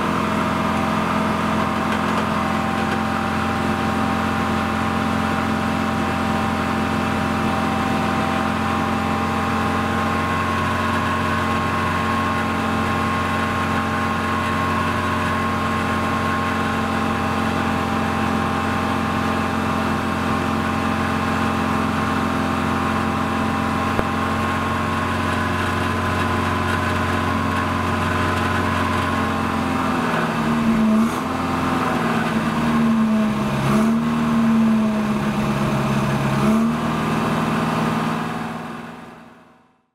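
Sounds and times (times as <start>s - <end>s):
car engine idling: 0.0s - 39.4s.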